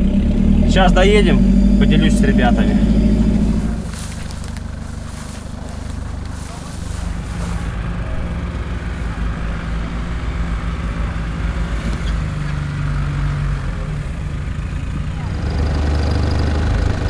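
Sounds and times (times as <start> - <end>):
suv engine running at low revs: 0.0 - 17.0.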